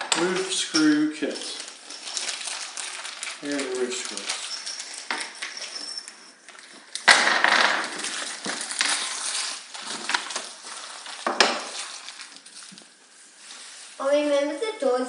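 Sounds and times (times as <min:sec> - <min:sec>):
plastic crinkling: 0:00.0 - 0:14.2.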